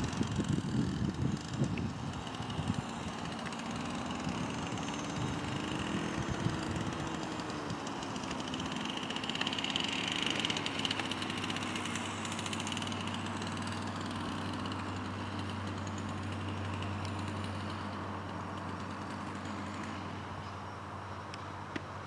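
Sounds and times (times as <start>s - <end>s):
motor humming: 0.0s - 21.8s.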